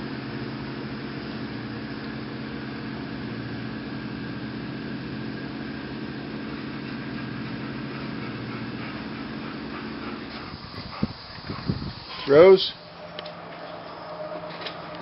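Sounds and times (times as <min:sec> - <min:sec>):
tractor engine running steadily: 0:00.0 - 0:15.0.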